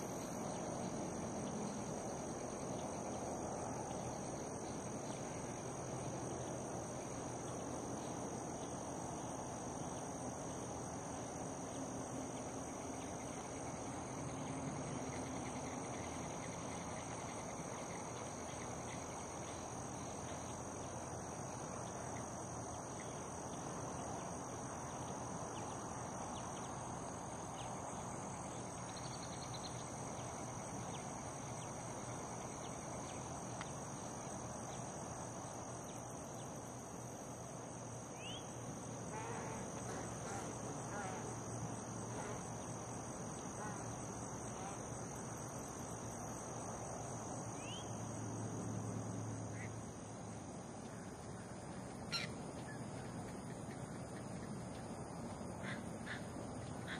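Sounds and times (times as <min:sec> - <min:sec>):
insects buzzing: 0:00.0 - 0:56.9
outdoor ambience hiss: 0:00.0 - 0:56.9.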